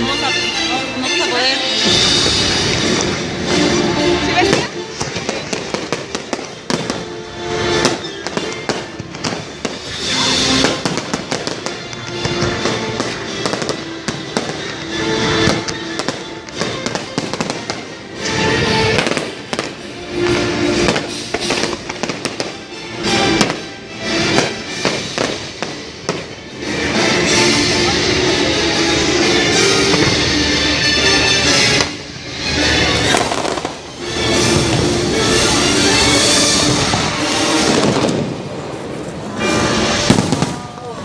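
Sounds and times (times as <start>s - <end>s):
loud music: 0.0s - 41.0s
fireworks bangs and crackling: 1.3s - 41.0s.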